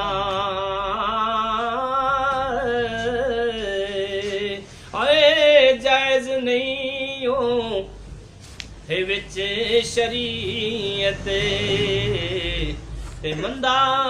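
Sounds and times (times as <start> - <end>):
man singing unaccompanied: 0.0 - 8.0, 8.8 - 14.0.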